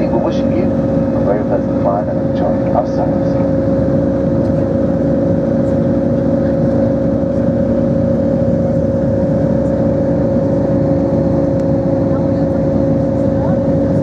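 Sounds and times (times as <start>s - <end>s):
airplane cabin engine drone: 0.0s - 14.0s
constant hum-like tones: 0.0s - 14.0s.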